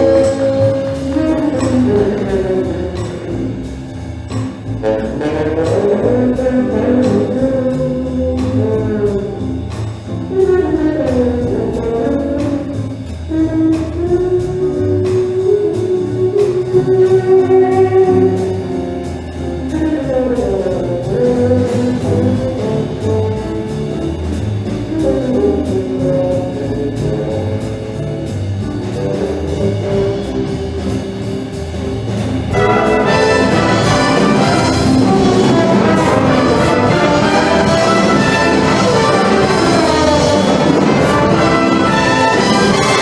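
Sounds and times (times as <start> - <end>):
music with steady beat: 0.0 - 43.0.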